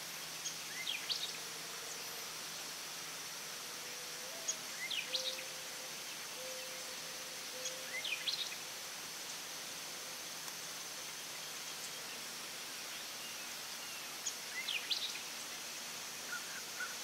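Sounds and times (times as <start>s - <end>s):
high insect drone: 0.0s - 17.0s
songbird singing: 0.2s - 2.8s, 4.2s - 9.5s, 10.2s - 17.0s.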